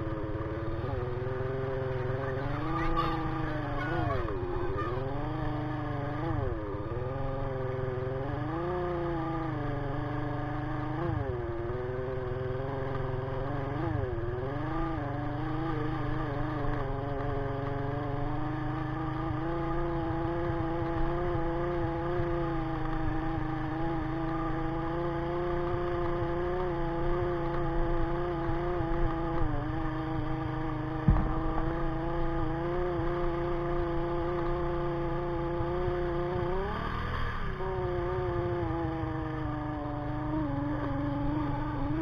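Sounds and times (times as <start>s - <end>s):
low road rumble: 0.0s - 42.0s
motorcycle engine running: 0.0s - 42.0s.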